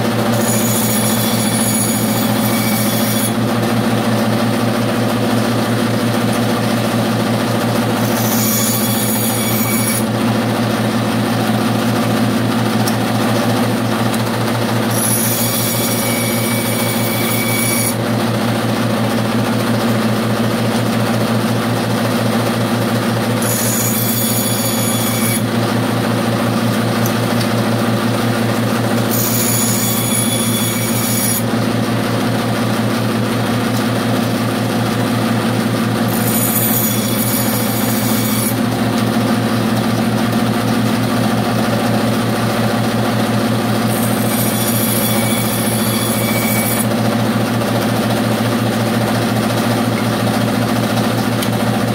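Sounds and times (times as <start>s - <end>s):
saw blade cutting wood: 0.0s - 40.5s, 41.3s - 51.9s
band saw motor hum: 0.0s - 51.9s.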